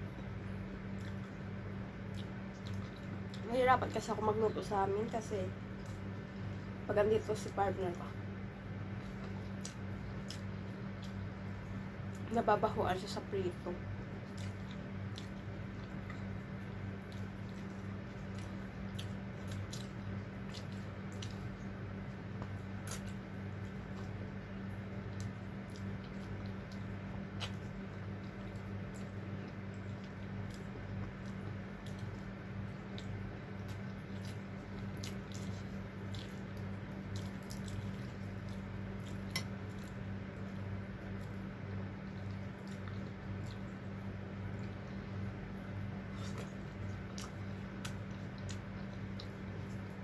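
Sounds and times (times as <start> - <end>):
steady low hum: 0.0 - 50.0
close chewing: 0.9 - 6.3, 8.9 - 12.3, 14.0 - 50.0.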